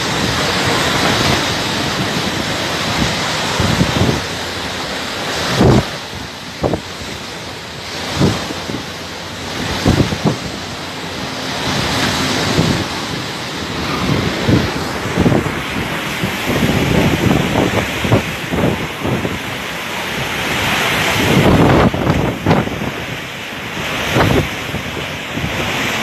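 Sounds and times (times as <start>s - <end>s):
strong wind blowing: 0.0s - 26.0s
wind buffeting microphone: 0.0s - 26.0s.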